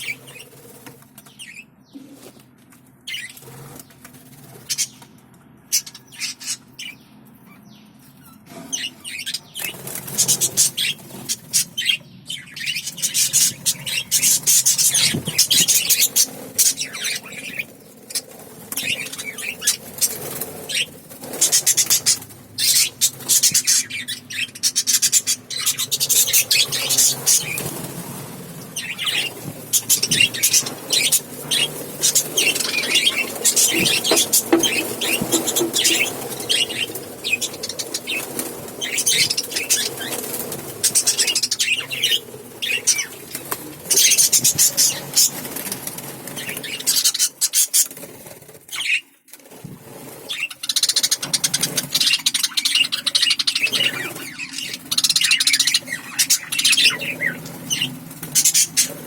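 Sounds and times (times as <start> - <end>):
parrots chirping and chattering: 0.0 - 49.2, 50.1 - 59.0.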